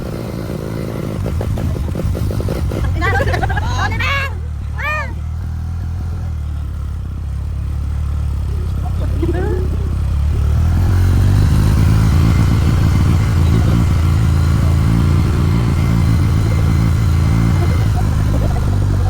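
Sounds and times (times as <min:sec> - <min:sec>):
motorcycle engine drone: 0:00.0 - 0:19.0.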